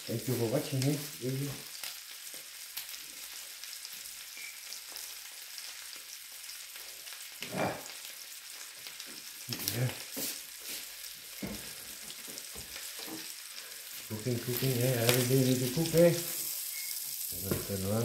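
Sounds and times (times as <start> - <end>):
pork chop frying sizzle: 0.0 - 18.0.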